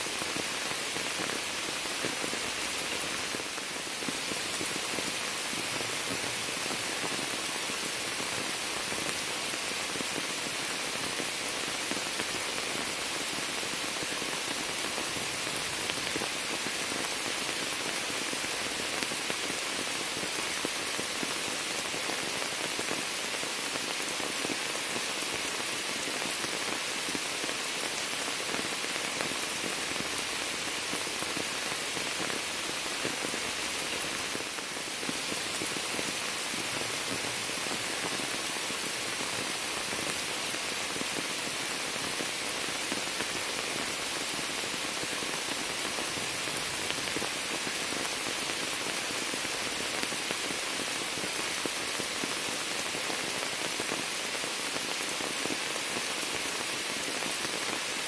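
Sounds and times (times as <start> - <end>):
rain pattering on leaves: 0.0 - 58.0
rain splashing into water: 0.0 - 58.0.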